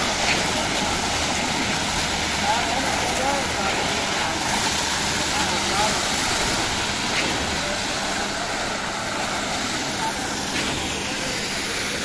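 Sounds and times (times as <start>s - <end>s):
concrete pump machine running: 0.0s - 12.0s.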